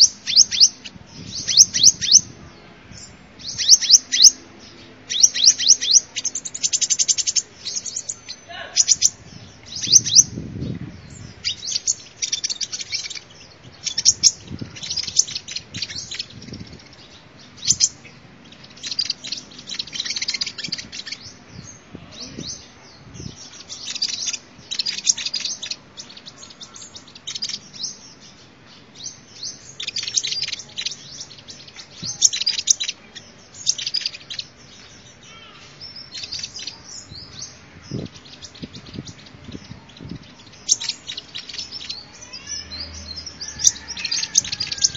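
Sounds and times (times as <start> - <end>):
bird chirps and trills: 0.0 - 44.9.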